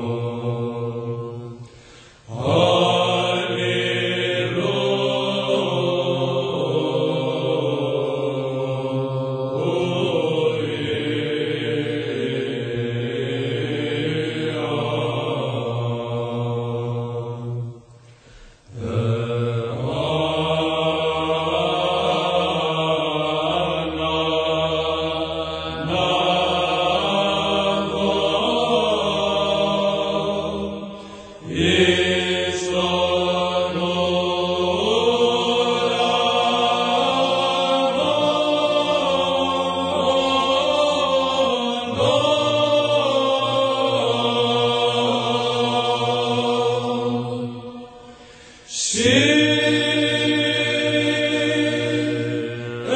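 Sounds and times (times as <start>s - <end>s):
slow chant singing: 0.0s - 52.9s.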